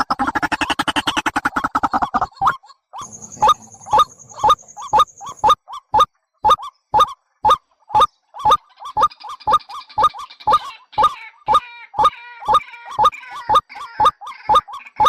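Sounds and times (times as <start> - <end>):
high chattering: 0.0 - 11.2, 12.0 - 15.0
hoarse bird call: 0.2 - 15.0.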